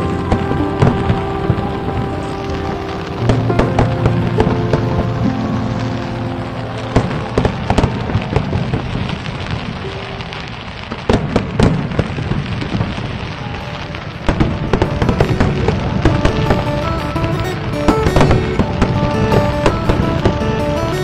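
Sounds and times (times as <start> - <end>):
fireworks banging and crackling: 0.0 - 21.0.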